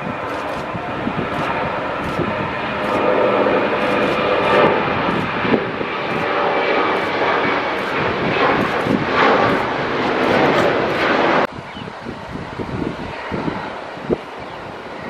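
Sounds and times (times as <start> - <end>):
jet engines at take-off power: 0.0 - 15.0.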